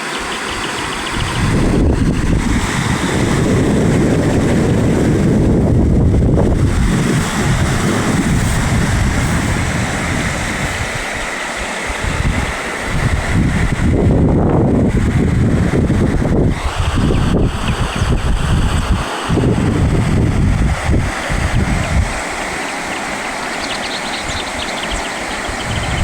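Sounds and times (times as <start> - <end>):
rain rushing noise: 0.0 - 26.0
wind buffeting microphone: 0.0 - 26.0.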